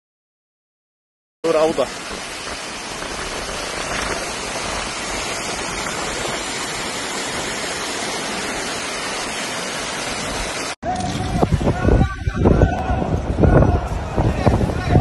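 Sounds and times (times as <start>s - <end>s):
water rushing into a pit: 1.4s - 15.0s.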